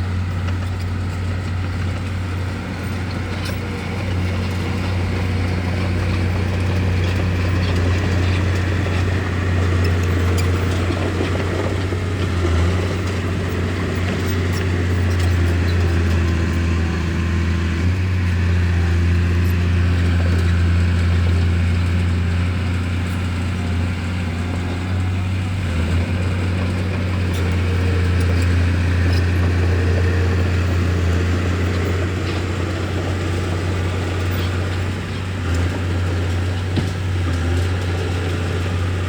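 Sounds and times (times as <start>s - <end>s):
bulldozer engine droning: 0.0s - 39.0s.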